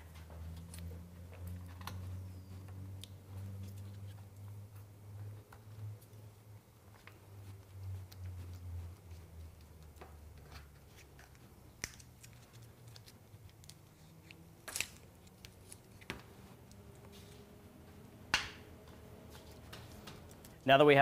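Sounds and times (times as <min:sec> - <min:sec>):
tape rustling: 0:00.1 - 0:20.7.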